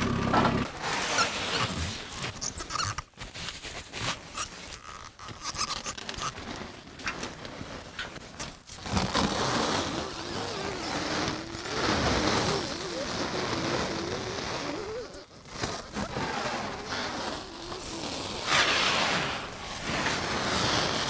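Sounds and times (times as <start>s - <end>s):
stretch wrap crackling screech: 0.7s - 21.0s.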